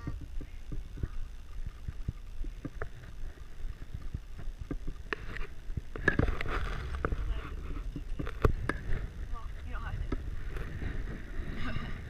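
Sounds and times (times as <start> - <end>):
low wind rumble on microphone: 0.0 - 12.0.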